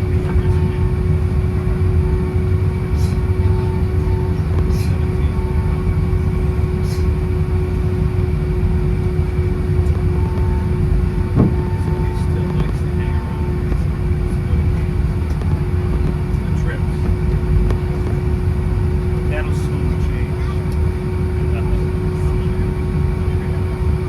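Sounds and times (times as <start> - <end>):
constant low hum: 0.0 - 24.0
jet engine cabin rumble: 0.0 - 24.0.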